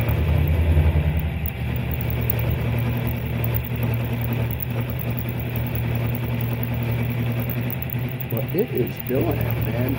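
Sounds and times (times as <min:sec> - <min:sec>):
milling machine cutting steel: 0:00.0 - 0:09.9.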